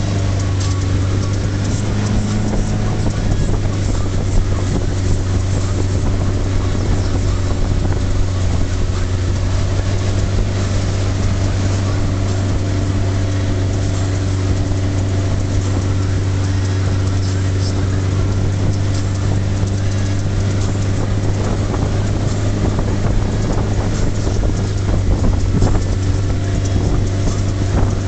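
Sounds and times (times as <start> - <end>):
motorboat engine drone: 0.0 - 28.0
wake rushing: 0.0 - 28.0
wind buffeting microphone: 0.0 - 28.0.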